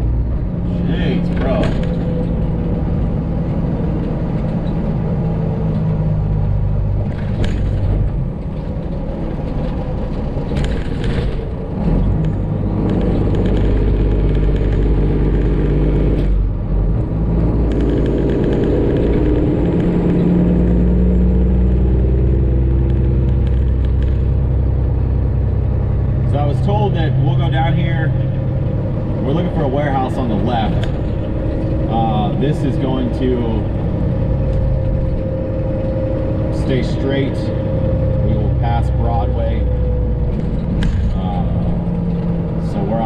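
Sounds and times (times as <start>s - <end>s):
diesel truck engine drone: 0.0s - 43.0s.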